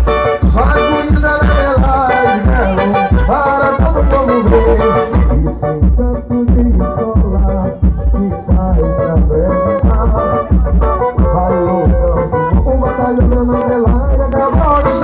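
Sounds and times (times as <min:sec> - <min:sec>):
heavy steady drum beat: 0:00.0 - 0:15.0
person singing: 0:00.0 - 0:15.0.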